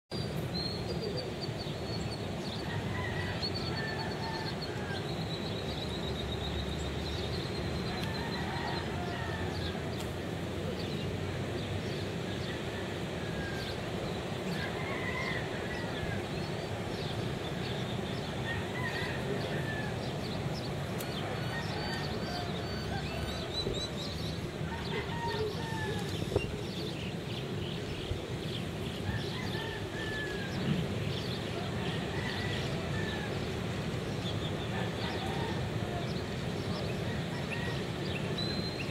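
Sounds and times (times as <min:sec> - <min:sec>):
ocean surf breaking: 0:00.3 - 0:38.9.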